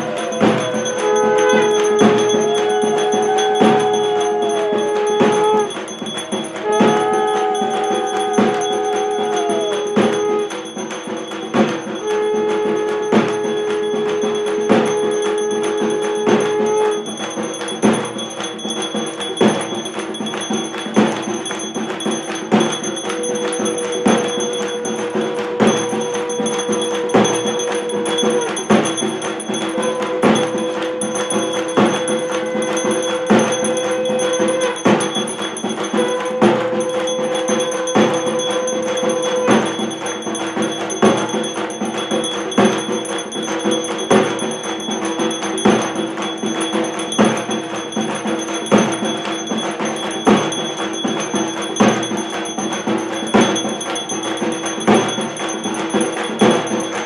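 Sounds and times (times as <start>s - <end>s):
devotional music: 0.0s - 57.0s
held tone: 0.0s - 57.0s
ringing bells: 0.0s - 57.0s
steady percussion beat: 0.0s - 57.0s.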